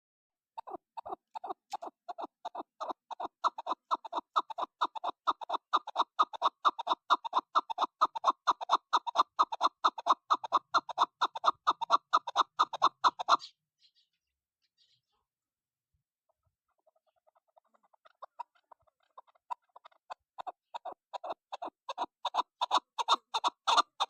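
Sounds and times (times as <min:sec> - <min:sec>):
partridge clucking call: 0:00.6 - 0:14.1, 0:16.7 - 0:24.0.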